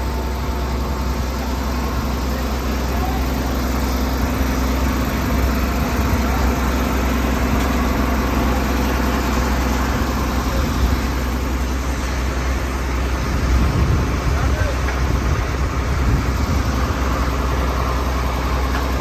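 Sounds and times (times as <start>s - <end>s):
drilling rig engine humming: 0.0s - 19.0s.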